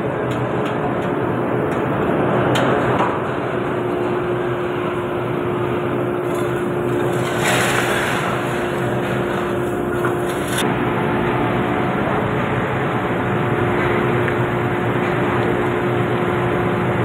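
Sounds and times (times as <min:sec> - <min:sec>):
industrial din with hum: 0:00.0 - 0:17.0.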